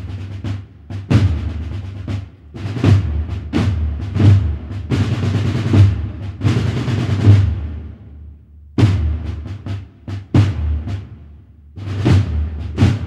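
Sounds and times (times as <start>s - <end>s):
drum roll: 0.0s - 8.2s, 8.8s - 13.0s.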